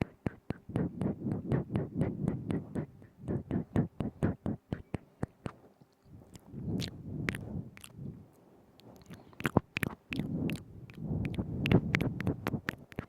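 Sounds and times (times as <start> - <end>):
wet tongue clicks and lip pops: 0.0 - 8.0, 8.8 - 13.0.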